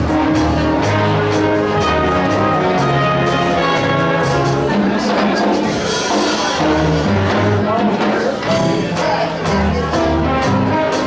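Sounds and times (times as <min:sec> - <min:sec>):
big band jazz: 0:00.0 - 0:11.0
steady cymbal beat: 0:00.0 - 0:11.0.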